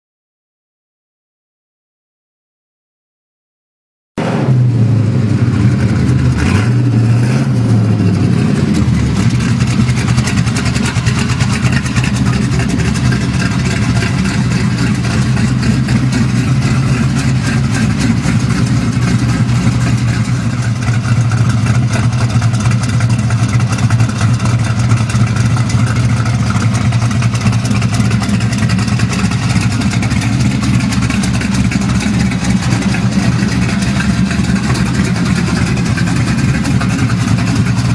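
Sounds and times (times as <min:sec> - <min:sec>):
car engine idling: 0:04.2 - 0:37.9.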